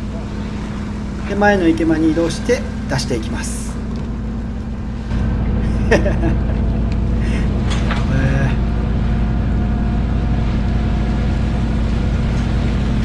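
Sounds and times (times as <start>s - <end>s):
boat engine droning: 0.0s - 13.0s
crane machinery running: 0.0s - 13.0s.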